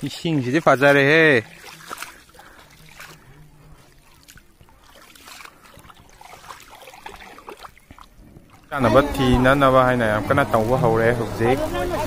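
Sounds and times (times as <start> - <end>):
small water splashes: 0.0 - 12.0
stream water trickling: 0.0 - 12.0.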